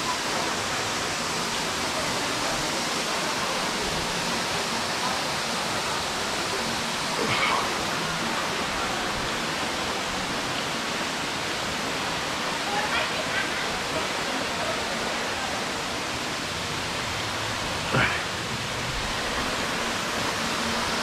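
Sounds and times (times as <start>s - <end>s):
waterfall and stream over rocks: 0.0s - 21.0s.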